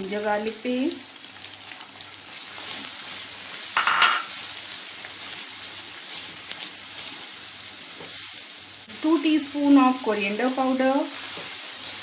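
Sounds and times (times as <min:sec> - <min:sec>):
paste sizzling in hot oil: 0:00.4 - 0:12.0
spatula stirring in a wok: 0:01.3 - 0:12.0.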